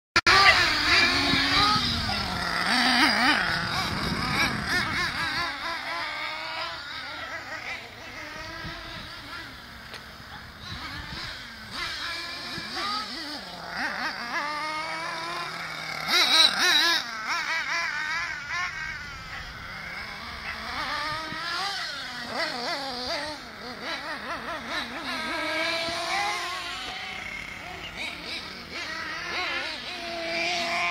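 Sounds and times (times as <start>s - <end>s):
small nitro engines whining: 0.2s - 30.9s.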